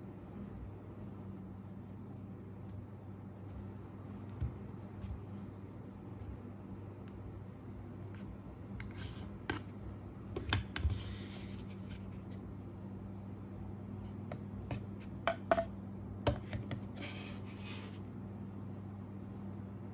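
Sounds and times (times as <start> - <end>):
low steady hum: 0.0 - 19.9.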